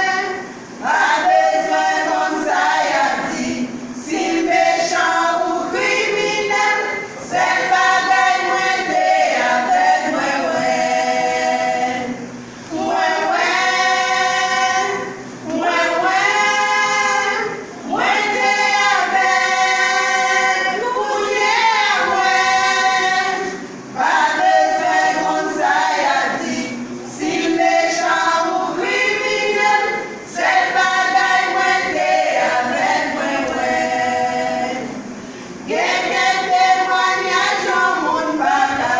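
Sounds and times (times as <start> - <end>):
vocal group singing in harmony: 0.0 - 38.9.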